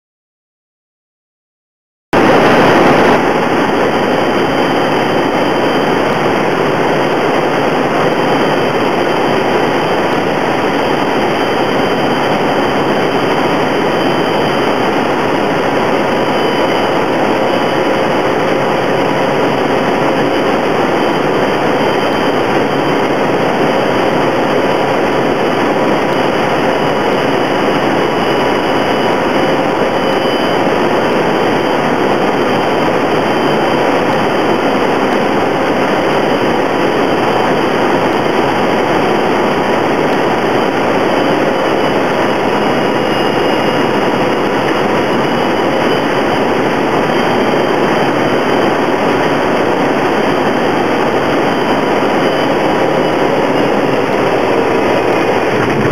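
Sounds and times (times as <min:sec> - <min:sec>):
turboprop cabin drone: 0:02.2 - 0:55.9.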